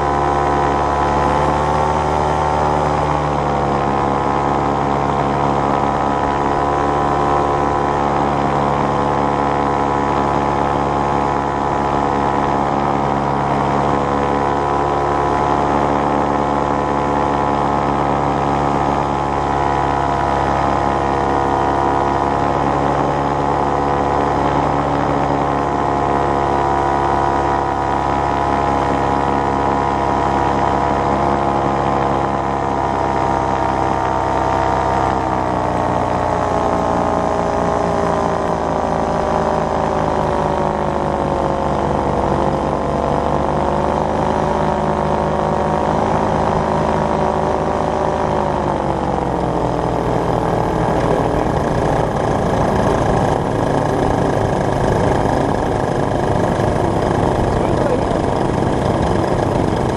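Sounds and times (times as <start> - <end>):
paramotor engine and propeller: 0.0 - 59.9.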